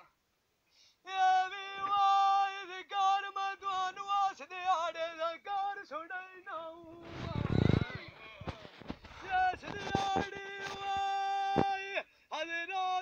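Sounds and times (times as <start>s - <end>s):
man singing unaccompanied: 1.0s - 13.0s.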